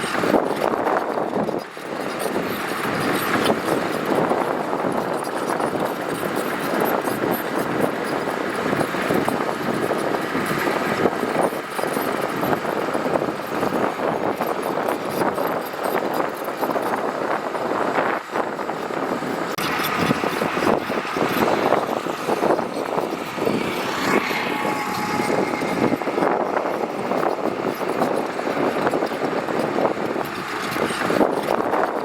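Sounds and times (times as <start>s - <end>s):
gravel grinding and rattling: 0.0s - 32.0s
machine engine: 0.0s - 32.0s.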